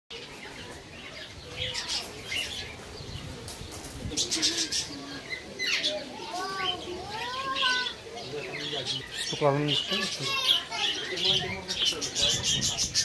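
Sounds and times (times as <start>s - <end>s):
budgerigars chirping and warbling: 0.1s - 13.0s.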